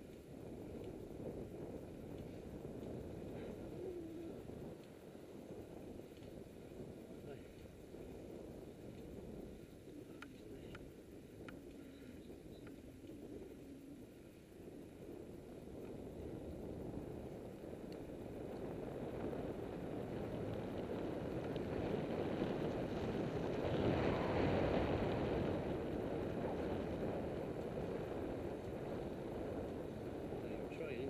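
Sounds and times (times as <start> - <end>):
bicycle tyres rumbling on tarmac: 0.0 - 31.0
wind over microphone: 0.0 - 31.0.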